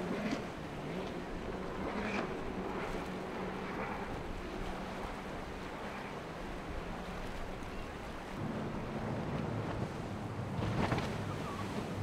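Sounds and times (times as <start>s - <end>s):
motorboat engine running: 0.0s - 12.0s
waves and spray rushing: 0.0s - 12.0s
wind: 0.0s - 12.0s.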